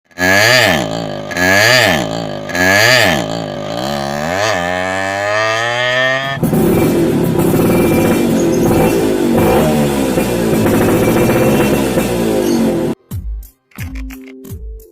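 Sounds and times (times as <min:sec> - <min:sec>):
two-stroke motorcycle engine revving: 0:00.1 - 0:13.0.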